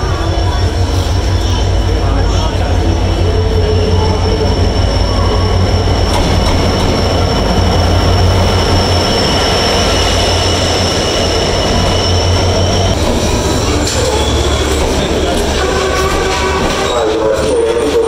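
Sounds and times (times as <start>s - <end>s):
high-pitched metallic squeal: 0.0s - 18.0s
locomotive engine rumble: 0.0s - 18.0s.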